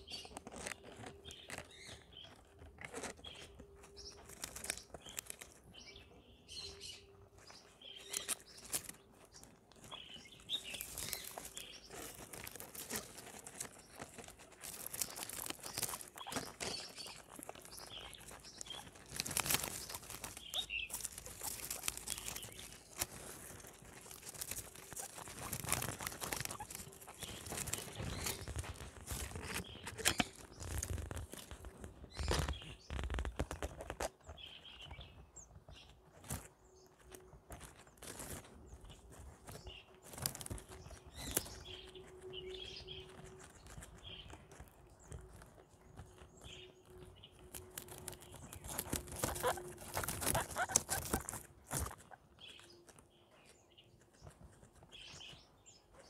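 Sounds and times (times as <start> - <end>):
guinea pigs chewing greens: 0.0 - 56.0.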